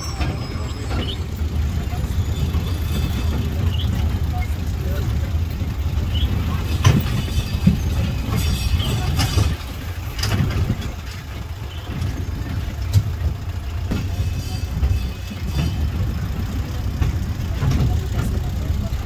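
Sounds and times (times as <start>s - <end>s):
carriage rattles and knocks: 0.0s - 19.0s
engine and road rumble: 0.0s - 19.0s.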